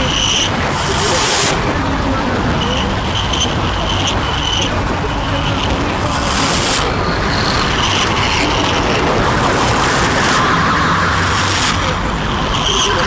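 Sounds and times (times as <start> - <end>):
rumbling hissing noise: 0.0 - 13.0.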